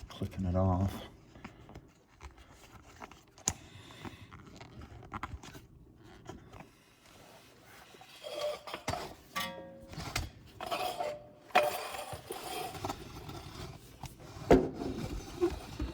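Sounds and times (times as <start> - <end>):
clicks and scrapes of handling: 1.4 - 15.9.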